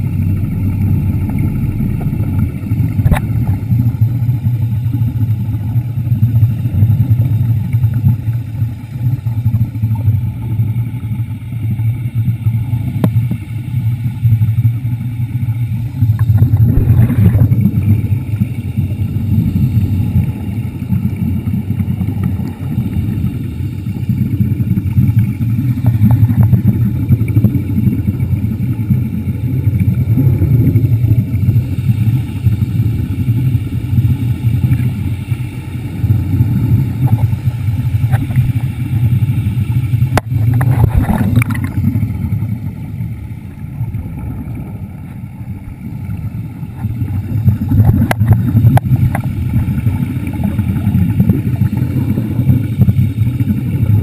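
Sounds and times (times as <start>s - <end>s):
underwater scooter rumble: 0.0s - 54.0s.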